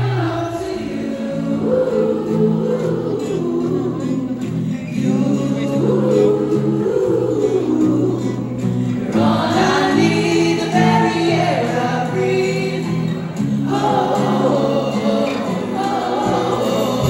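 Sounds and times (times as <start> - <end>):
choir singing worship song: 0.0 - 17.0
musical backing: 0.0 - 17.0.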